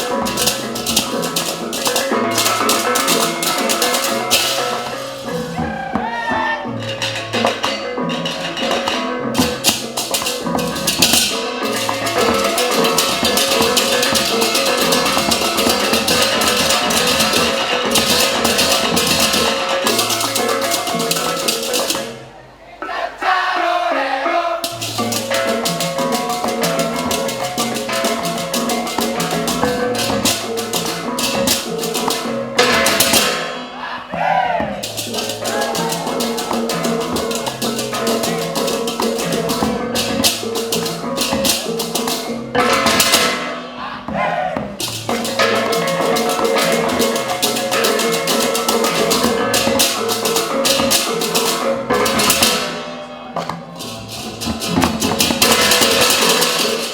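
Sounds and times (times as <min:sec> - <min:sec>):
live ensemble music: 0:00.0 - 0:22.2, 0:24.7 - 0:56.9
rattling percussion: 0:00.0 - 0:22.3, 0:24.6 - 0:56.9.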